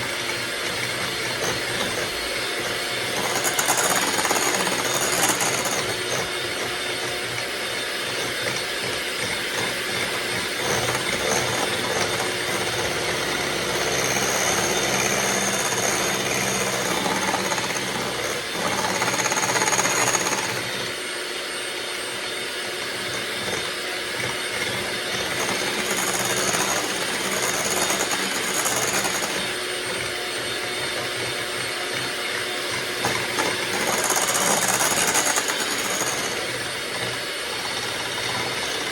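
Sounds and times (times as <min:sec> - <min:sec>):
electric mixer whisking: 0:00.0 - 0:38.9.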